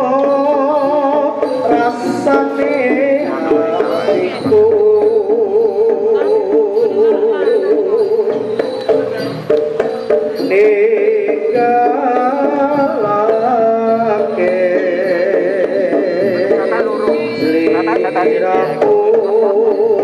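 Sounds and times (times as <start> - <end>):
hand drums: 0.0 - 20.0
wavering melody with vibrato: 0.0 - 20.0.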